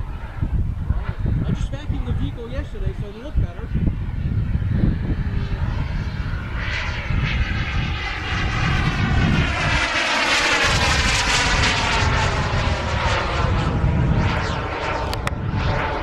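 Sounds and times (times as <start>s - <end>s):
jet aircraft engine whine: 0.0s - 16.0s.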